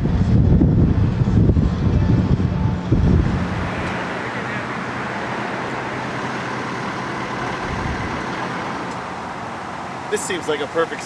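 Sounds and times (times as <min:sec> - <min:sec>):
wind buffeting microphone: 0:00.0 - 0:09.9
street traffic: 0:00.0 - 0:11.0
tanker truck driving past: 0:01.2 - 0:11.0.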